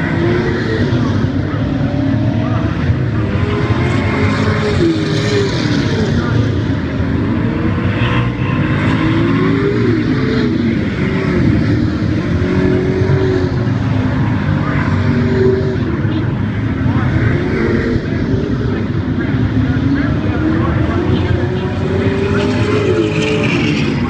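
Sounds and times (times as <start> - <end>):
race car engines revving: 0.0 - 24.0.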